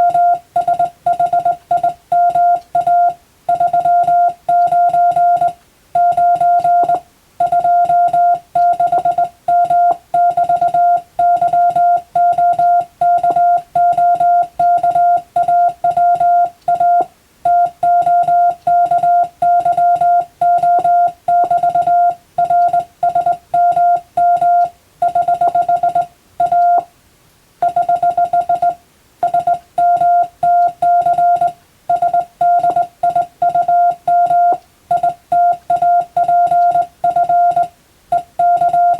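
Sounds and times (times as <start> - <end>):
morse code beeps: 0.0 - 26.9, 27.6 - 38.9.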